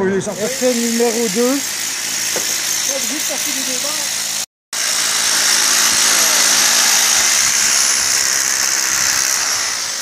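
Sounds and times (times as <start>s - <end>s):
power drill boring into stone: 0.2s - 10.0s.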